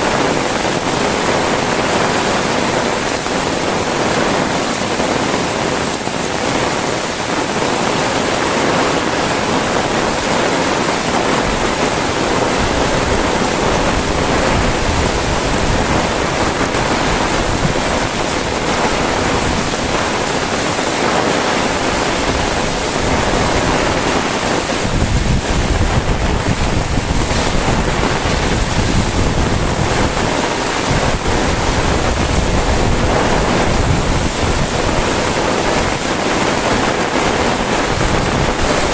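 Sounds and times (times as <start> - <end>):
heavy rain falling: 0.0 - 38.9
wind rumbling on microphone: 0.0 - 38.9.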